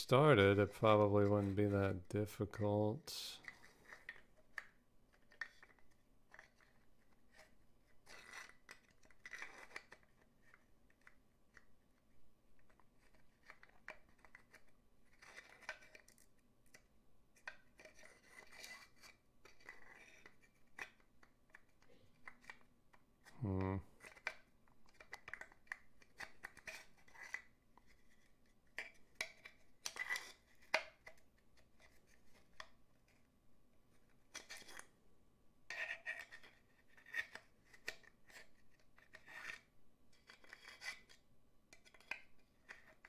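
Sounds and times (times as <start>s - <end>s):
hands handling puzzle box: 0.6s - 2.6s, 3.4s - 33.3s, 33.9s - 34.9s, 35.7s - 43.0s.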